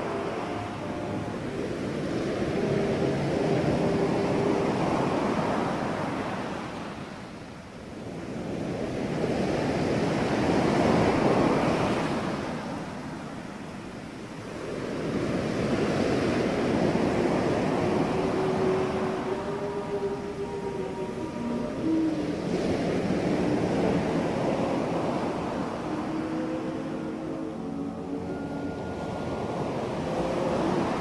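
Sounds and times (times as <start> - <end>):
waves breaking on a beach: 0.0 - 31.0.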